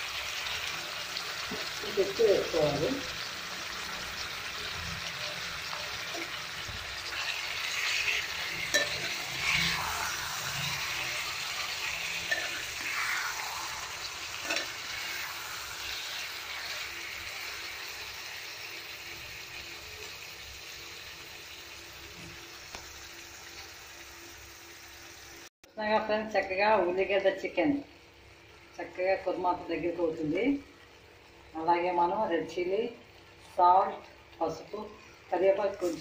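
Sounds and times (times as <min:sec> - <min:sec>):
food sizzling in a pan: 0:00.0 - 0:36.0.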